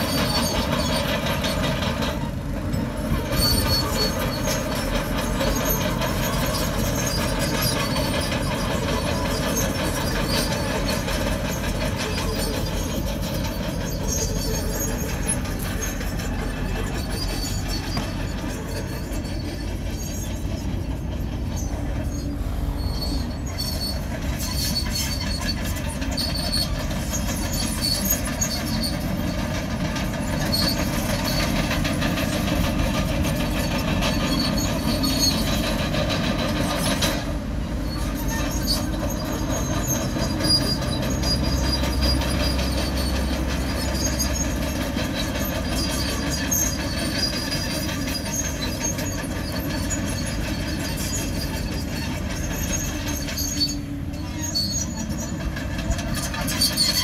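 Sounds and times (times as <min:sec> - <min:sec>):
bulldozer diesel engine rumble: 0:00.0 - 0:57.0
steel tracks squealing and clanking: 0:00.0 - 0:57.0.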